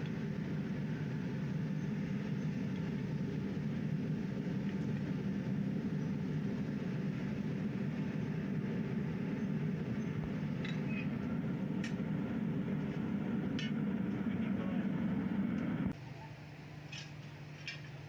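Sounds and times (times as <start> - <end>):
electric blower rumbling: 0.0 - 16.0.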